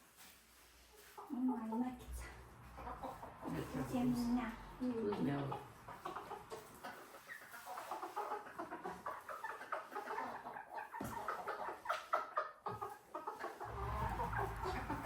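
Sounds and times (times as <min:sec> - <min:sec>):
chickens clucking: 0:00.2 - 0:15.0.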